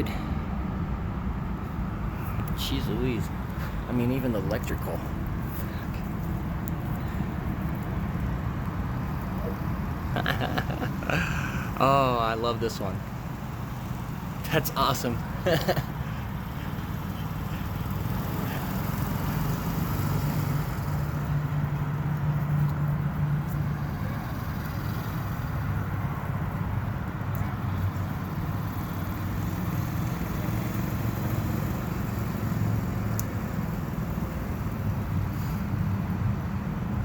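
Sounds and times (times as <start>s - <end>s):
motor vehicle rumble: 0.0s - 37.0s.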